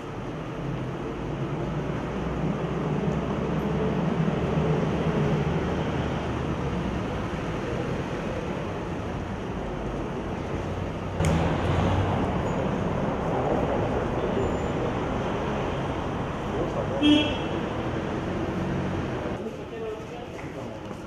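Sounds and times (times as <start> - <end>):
vehicle engine rumble: 0.0 - 19.5.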